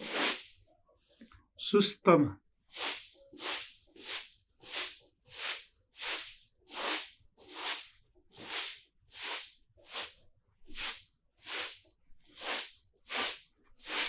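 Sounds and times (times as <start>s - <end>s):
broom sweeping: 0.0s - 0.6s, 2.7s - 14.0s.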